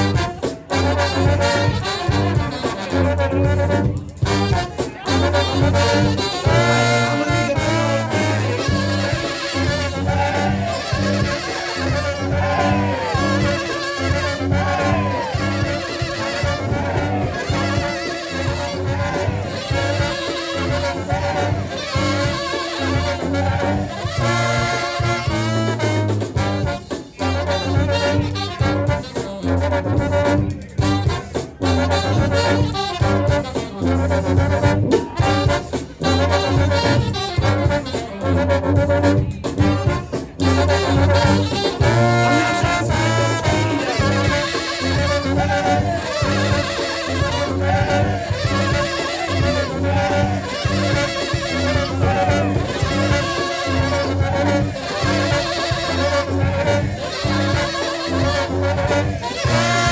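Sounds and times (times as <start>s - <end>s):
bass line: 0.0s - 59.9s
drums: 0.0s - 59.9s
trombones and trumpets: 0.0s - 59.9s.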